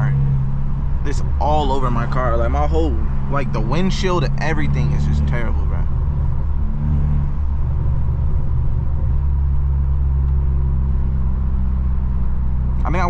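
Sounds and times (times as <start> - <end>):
car exhaust droning: 0.0 - 13.0
tyre and road rumble: 0.0 - 13.0.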